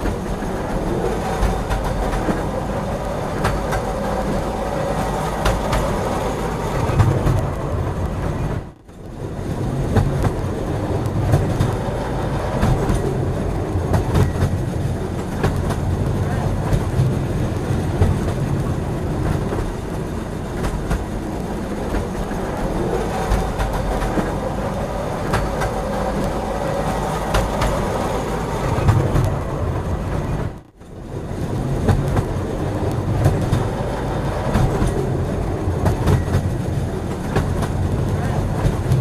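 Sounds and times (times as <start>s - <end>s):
train rumbling along track: 0.0s - 39.0s
wheels clicking over rail joints: 0.0s - 39.0s.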